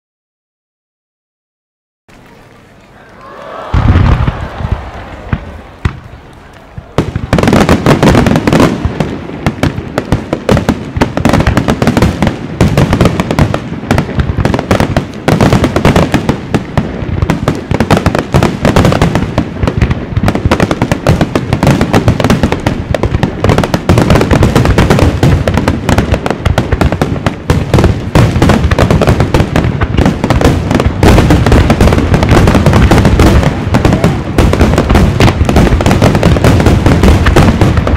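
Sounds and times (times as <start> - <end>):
fireworks bursting: 2.1 - 37.9.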